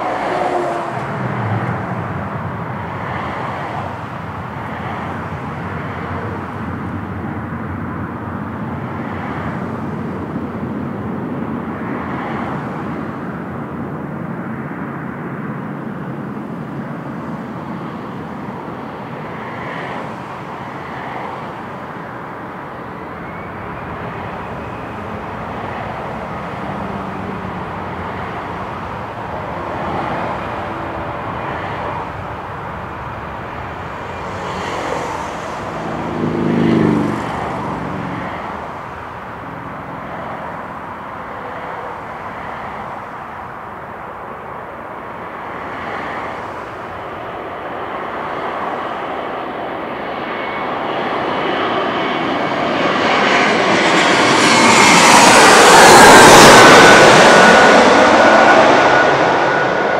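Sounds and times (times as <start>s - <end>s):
jet engines rushing hum: 0.0s - 59.9s.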